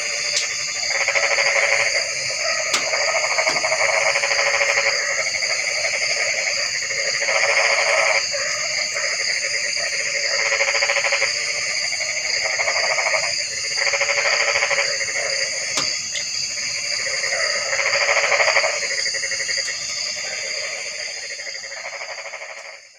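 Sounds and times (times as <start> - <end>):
frogs pulsed calling: 0.0 - 22.9
high-pitched frog trilling: 0.0 - 22.9.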